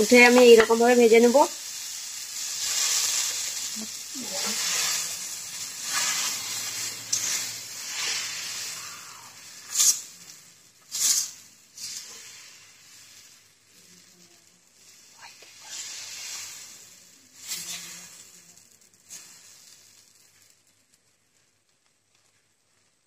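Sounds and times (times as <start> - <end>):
batter sizzling on hot griddle: 0.0 - 23.0.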